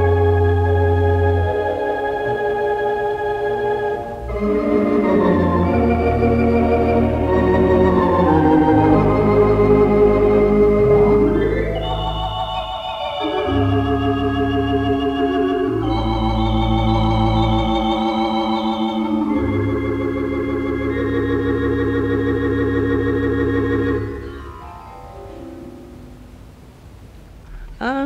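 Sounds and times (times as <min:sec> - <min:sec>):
theatre organ chords: 0:00.0 - 0:26.6.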